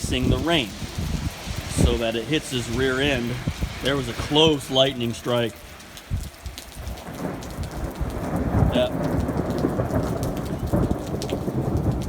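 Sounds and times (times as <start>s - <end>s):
pouring rain: 0.0s - 12.0s
thunder rumbling: 0.0s - 12.0s.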